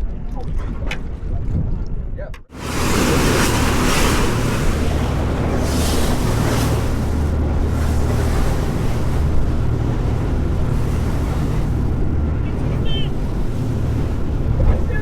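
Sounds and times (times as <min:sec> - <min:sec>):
boat low hum: 0:00.0 - 0:15.0
wind buffeting microphone: 0:00.0 - 0:15.0
sea noise: 0:02.5 - 0:15.0.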